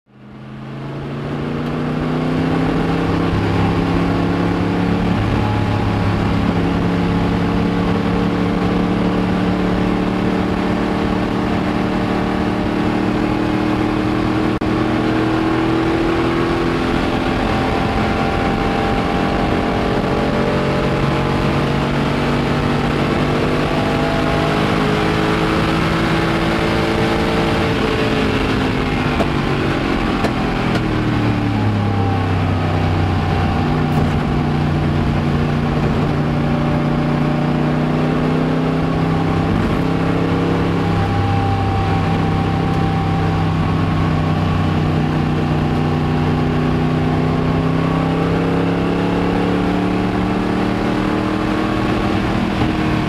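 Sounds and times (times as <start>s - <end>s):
racing car engine: 0.1s - 53.0s
wind and road noise: 0.1s - 53.0s.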